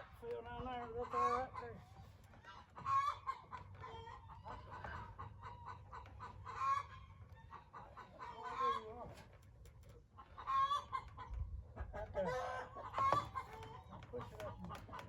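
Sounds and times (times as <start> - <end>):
chickens clucking: 0.2 - 15.0.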